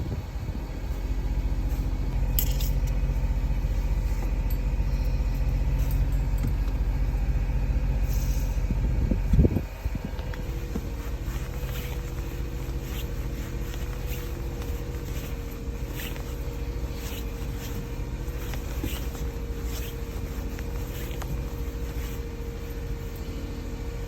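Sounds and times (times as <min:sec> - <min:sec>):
van engine idling: 0:00.0 - 0:24.0.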